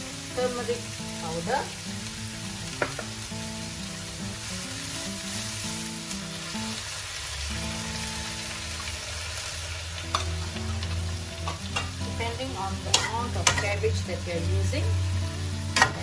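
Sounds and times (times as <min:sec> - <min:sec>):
soft background music: 0:00.0 - 0:16.0
vegetables sizzling in wok: 0:00.0 - 0:16.0.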